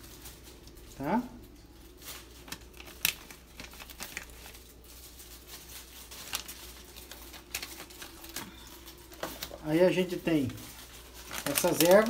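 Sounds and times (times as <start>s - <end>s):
aluminium foil crackling: 0.0s - 12.0s
plastic packet crinkling: 0.0s - 12.0s.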